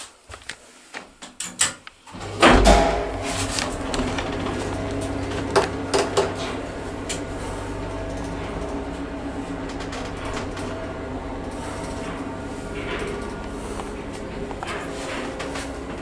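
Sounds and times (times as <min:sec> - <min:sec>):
elevator doors clunking shut: 0:01.3 - 0:16.0
elevator motor hum and rumble: 0:02.1 - 0:16.0.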